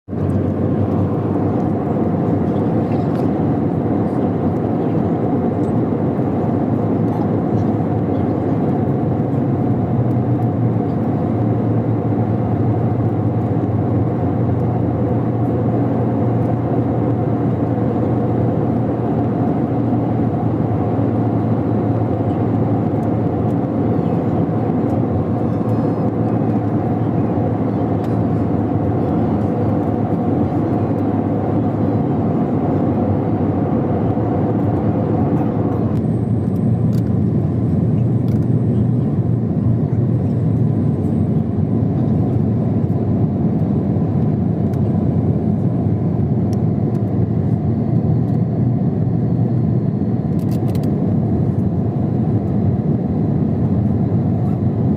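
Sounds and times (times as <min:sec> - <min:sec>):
airplane engine drone: 0:00.1 - 0:54.9.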